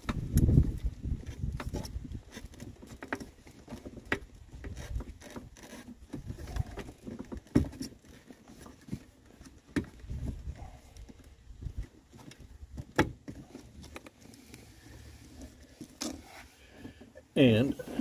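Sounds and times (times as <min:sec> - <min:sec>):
wires rustling against plastic: 0:00.5 - 0:18.0.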